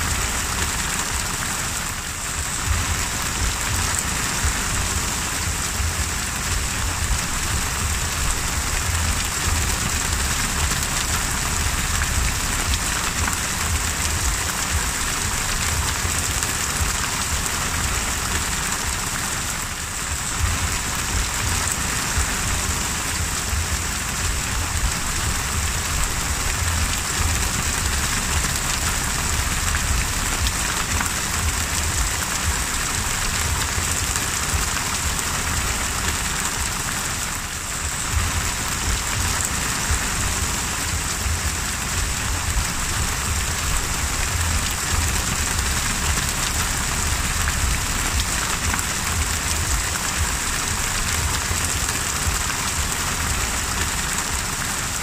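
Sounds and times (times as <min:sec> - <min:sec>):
heavy rain on water: 0:00.0 - 0:55.0
low rumble: 0:02.0 - 0:36.8, 0:37.6 - 0:53.6.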